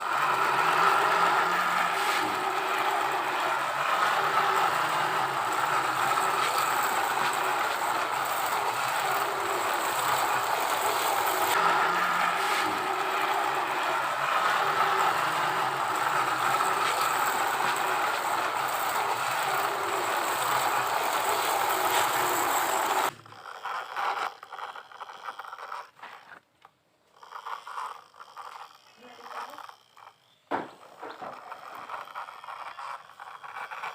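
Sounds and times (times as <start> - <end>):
toy trucks rattling and scraping: 0.0 - 33.9.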